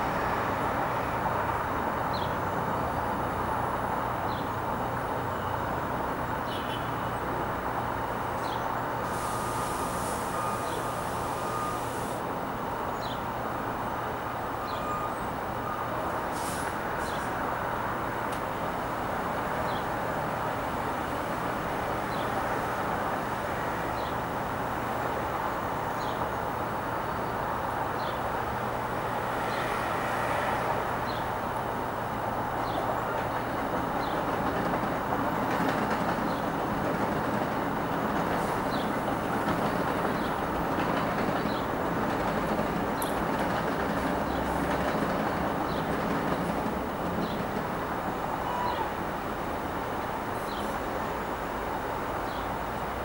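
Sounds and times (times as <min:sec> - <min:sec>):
distant city traffic: 0:00.0 - 0:53.0.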